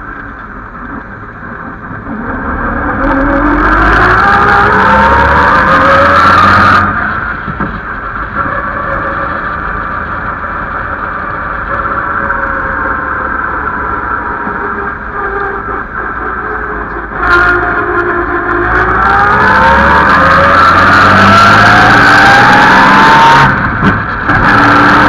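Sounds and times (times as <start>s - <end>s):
race car engine accelerating: 1.6s - 25.0s.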